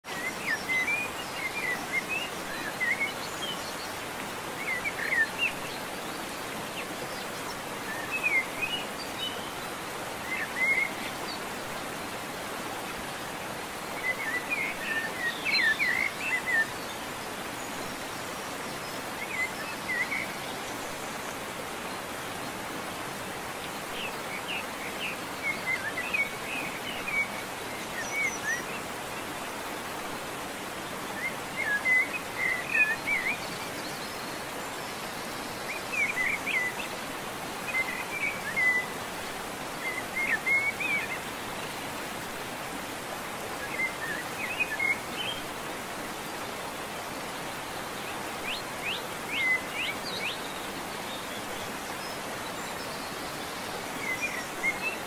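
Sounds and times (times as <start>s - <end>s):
small birds chirping: 0.0s - 55.0s
steady outdoor hiss: 0.0s - 55.0s.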